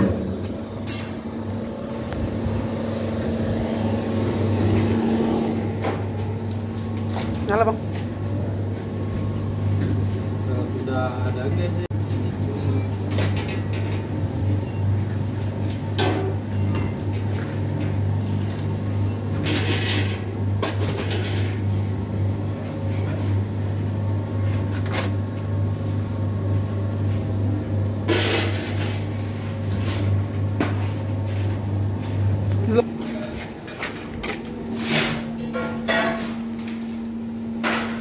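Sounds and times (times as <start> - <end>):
electric blower fan humming: 0.0 - 14.5, 19.5 - 38.0.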